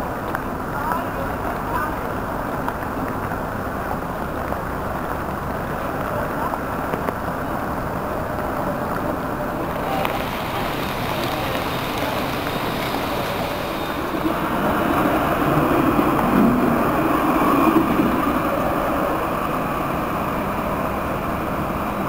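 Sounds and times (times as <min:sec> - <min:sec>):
city traffic noise: 0:00.0 - 0:22.0
tram rumbling past: 0:00.2 - 0:22.0.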